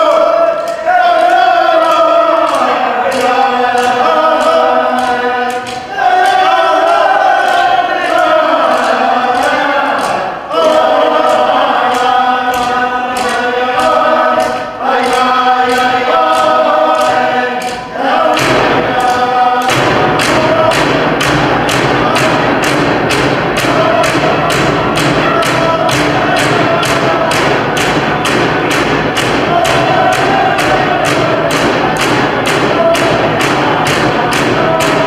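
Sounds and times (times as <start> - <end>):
group of voices chanting: 0.0 - 35.0
frame drum beats: 1.2 - 35.0.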